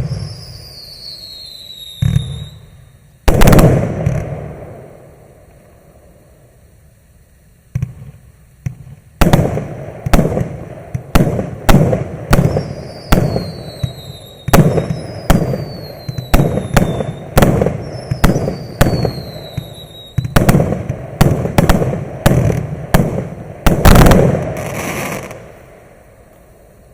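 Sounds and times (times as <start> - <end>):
firework reports: 0.0 - 26.9
firework whistles: 0.0 - 26.9.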